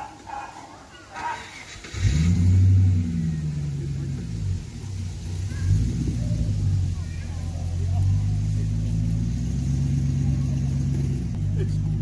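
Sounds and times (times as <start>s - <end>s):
car engine starting and running: 1.2s - 12.0s.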